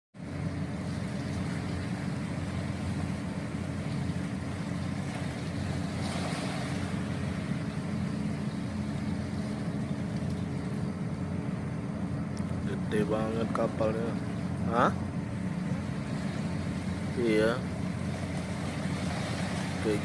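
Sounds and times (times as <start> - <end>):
ferry engines droning: 0.2 - 20.0.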